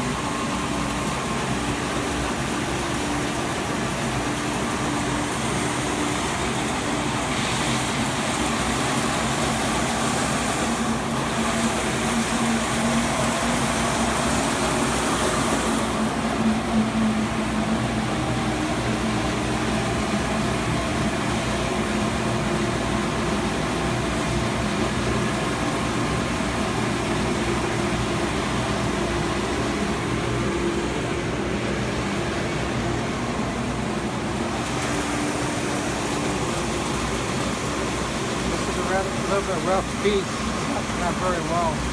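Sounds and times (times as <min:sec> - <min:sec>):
belt sander running: 0:00.0 - 0:41.9.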